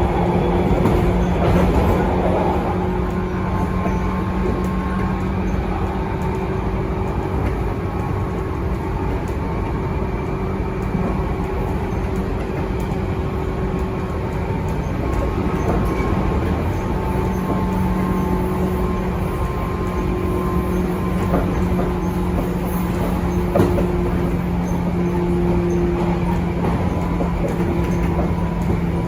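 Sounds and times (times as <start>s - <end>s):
train rolling rumble: 0.0s - 29.0s.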